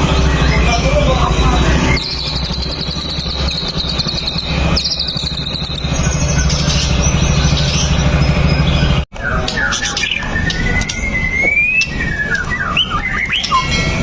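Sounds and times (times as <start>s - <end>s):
bird singing rapid trills: 0.0s - 14.0s.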